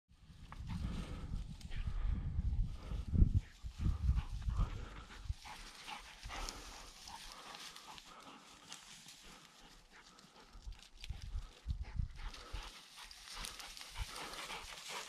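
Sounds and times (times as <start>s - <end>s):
footsteps in dry grass: 0.2s - 15.0s.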